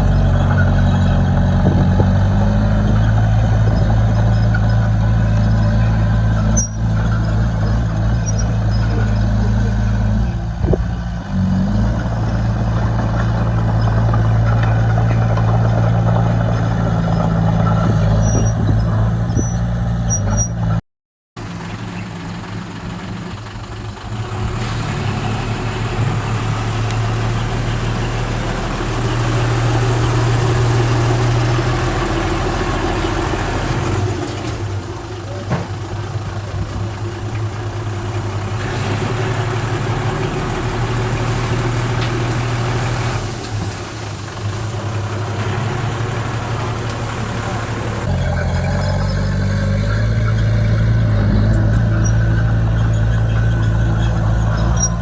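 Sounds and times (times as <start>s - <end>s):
bulldozer diesel engine running: 0.0s - 20.5s, 21.4s - 55.0s.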